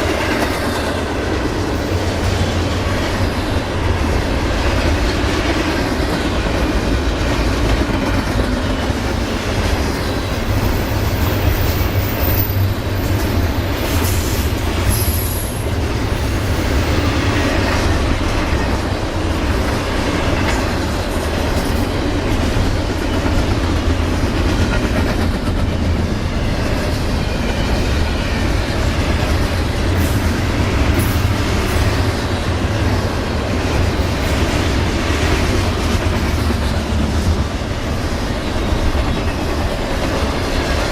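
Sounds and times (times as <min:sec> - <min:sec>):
railroad wheels clacking: 0:00.0 - 0:40.9.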